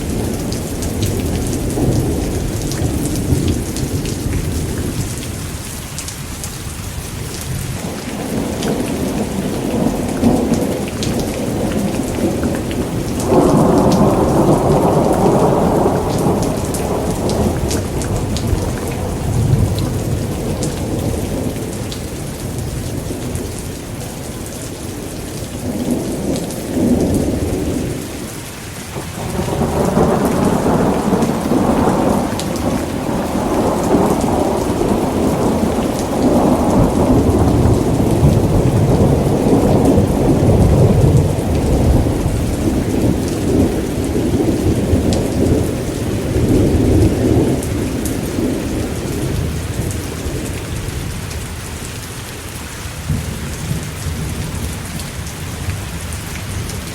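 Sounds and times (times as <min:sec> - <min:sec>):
rolling thunder: 0:00.0 - 0:05.5, 0:07.4 - 0:28.3, 0:28.9 - 0:51.3
steady rain: 0:00.0 - 0:56.9.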